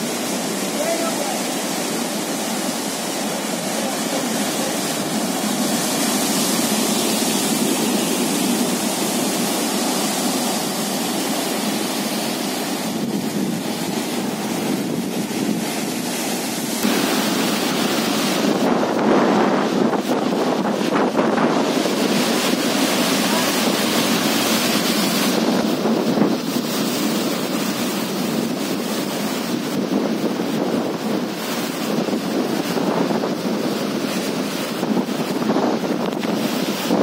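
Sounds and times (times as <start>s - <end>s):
surf breaking over rocks: 0.0s - 37.0s
wind buffeting microphone: 2.0s - 37.0s.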